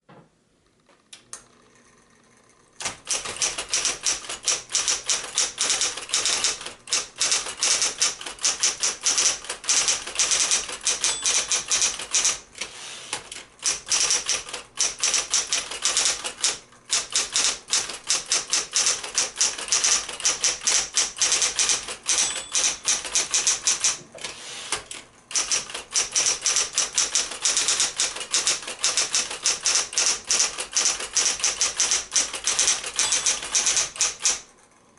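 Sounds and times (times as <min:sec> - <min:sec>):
typewriter keys clattering: 0:02.8 - 0:34.4.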